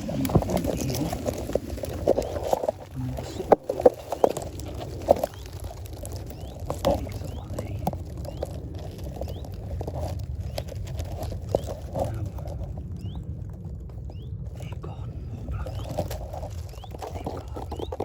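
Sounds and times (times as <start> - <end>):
footsteps crunching through undergrowth: 0.0 - 18.0
low rumble: 0.0 - 18.0
small bird chirping: 0.0 - 18.0.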